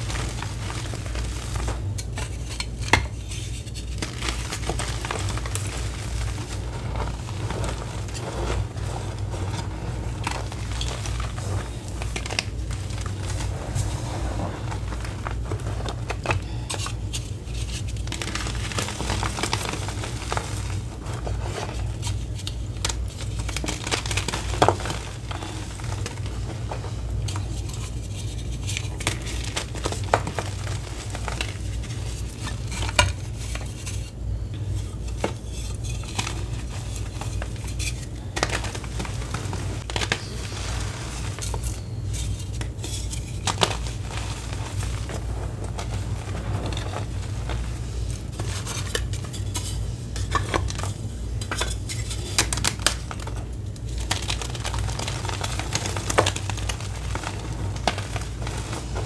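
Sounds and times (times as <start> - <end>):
chalk crunching and crumbling: 0.0 - 59.0.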